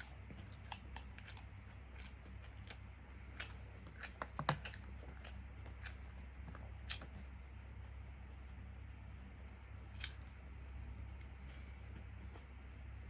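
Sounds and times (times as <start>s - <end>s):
chewing with wet mouth clicks: 0.0s - 8.6s, 9.5s - 12.9s
steady low hum: 0.0s - 13.0s.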